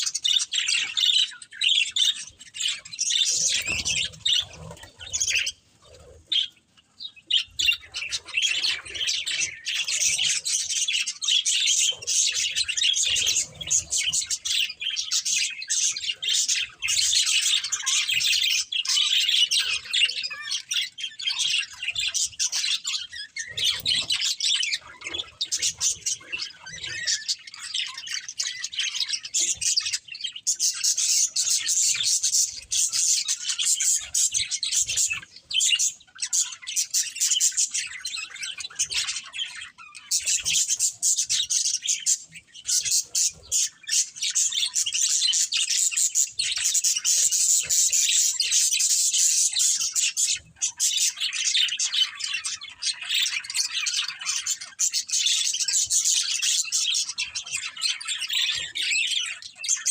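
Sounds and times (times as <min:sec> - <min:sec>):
budgies chirping and chattering: 0:00.0 - 0:59.9.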